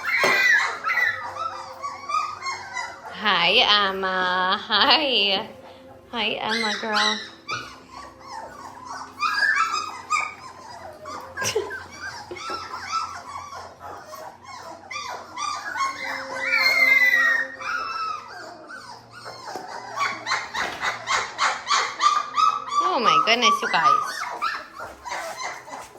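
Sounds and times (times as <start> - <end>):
puppies whimpering and crying: 0.0 - 25.9.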